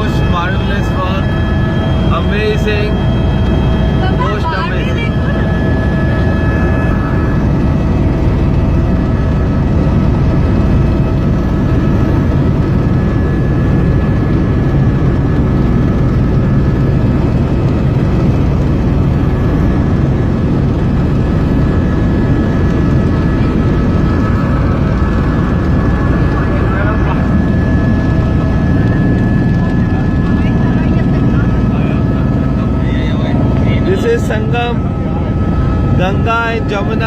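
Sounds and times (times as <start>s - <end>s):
helicopter rotor and engine drone: 0.0s - 37.0s.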